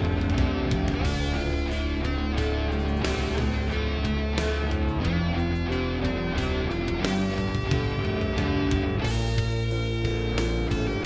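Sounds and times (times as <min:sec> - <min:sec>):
instrumental guitar music: 0:00.0 - 0:11.0.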